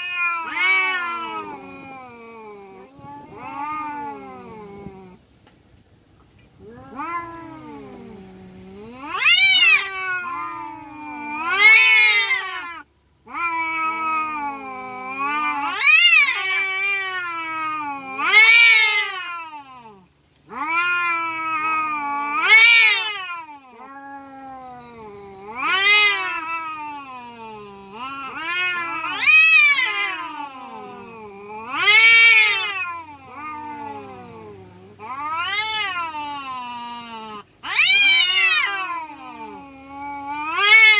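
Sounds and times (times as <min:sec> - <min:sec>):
cats yowling: 0:00.0 - 0:05.2, 0:06.6 - 0:40.9.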